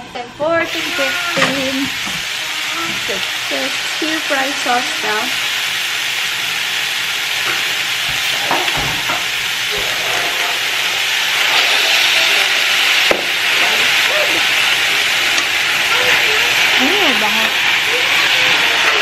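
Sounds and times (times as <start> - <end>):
vegetables sizzling in frying pan: 0.2 - 19.0.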